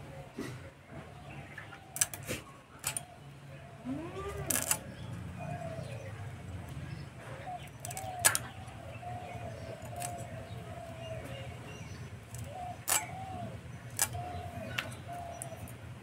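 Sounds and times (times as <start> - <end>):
dove cooing: 0.0 - 6.4, 7.2 - 16.0.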